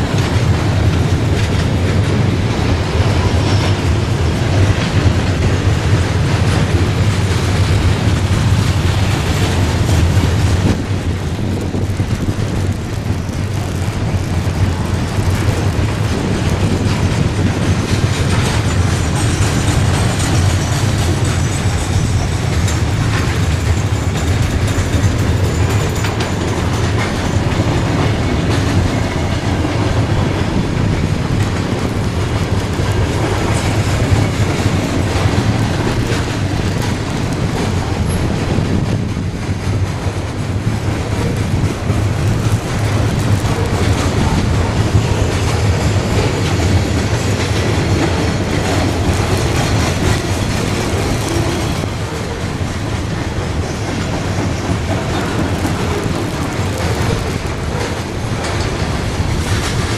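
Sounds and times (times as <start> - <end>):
steel wheels rolling on rail: 0.0 - 59.9.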